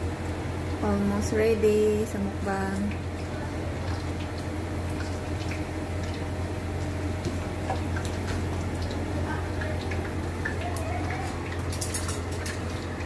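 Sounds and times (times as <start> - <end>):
meat frying in oil: 0.0 - 13.0
steady low hum: 0.0 - 13.0.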